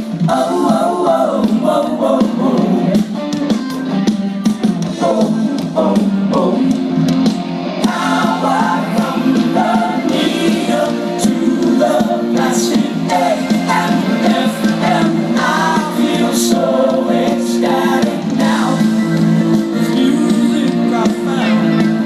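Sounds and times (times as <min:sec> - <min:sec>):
sung vocals: 0:00.0 - 0:03.5, 0:04.7 - 0:07.2, 0:07.8 - 0:22.0
bass line: 0:00.0 - 0:22.0
live pop-rock band playing: 0:00.0 - 0:22.0.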